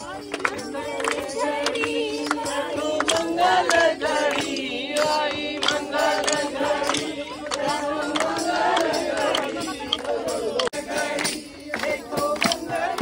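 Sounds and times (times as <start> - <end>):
women singing a chant together: 0.0 - 13.0
sharp hand claps: 0.1 - 13.0.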